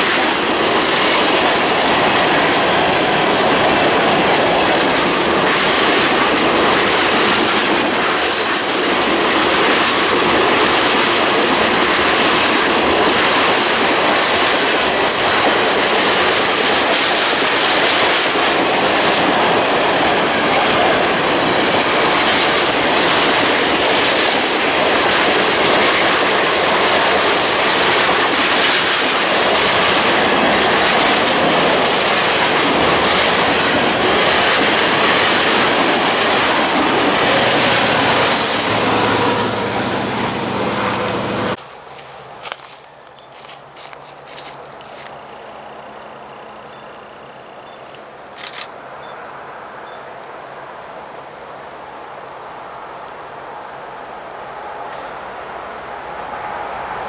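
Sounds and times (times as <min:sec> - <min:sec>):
high wheel squeals: 0:00.0 - 0:41.6, 0:42.9 - 0:48.2
train wheels clacking on rails: 0:00.0 - 0:48.7.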